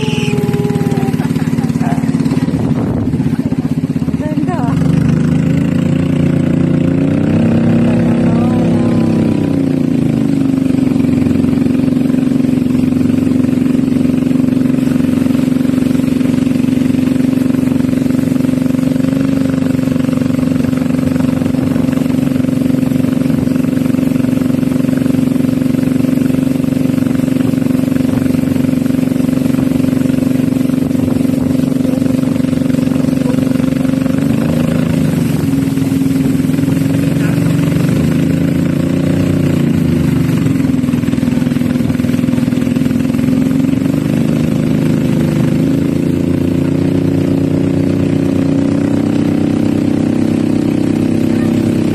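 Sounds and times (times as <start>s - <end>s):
small boat engine running: 0.0s - 51.9s.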